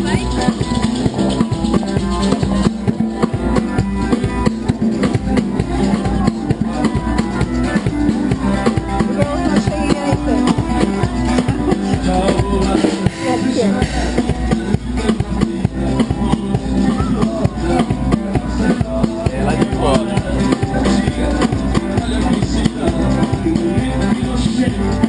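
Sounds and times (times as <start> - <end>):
drums playing dance rhythm: 0.0 - 25.0
plucked string melody: 0.0 - 25.0.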